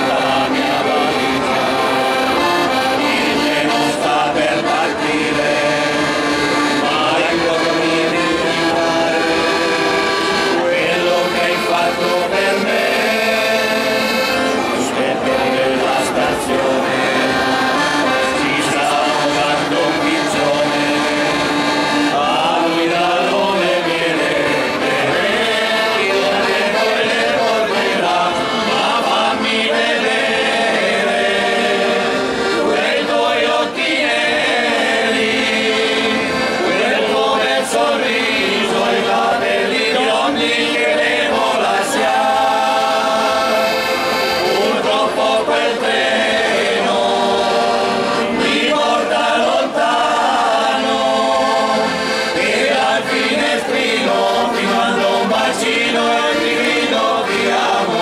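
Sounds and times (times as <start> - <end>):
accordion: 0.0 - 58.0
men singing in chorus: 0.0 - 58.0.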